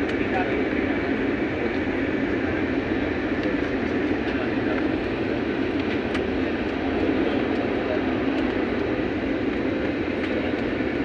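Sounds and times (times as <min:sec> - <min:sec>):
airliner rumbling on landing: 0:00.0 - 0:11.0.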